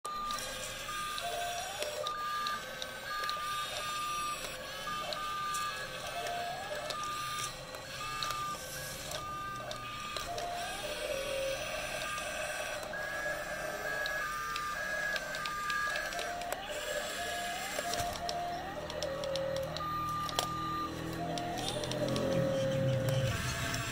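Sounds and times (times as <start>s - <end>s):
toy electric motors whining: 0.1s - 23.9s.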